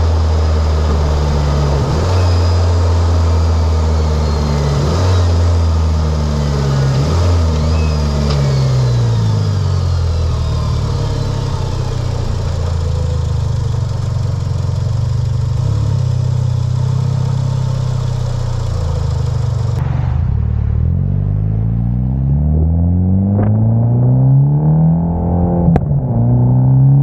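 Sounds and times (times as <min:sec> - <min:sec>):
car engine accelerating and cruising: 0:00.0 - 0:27.0.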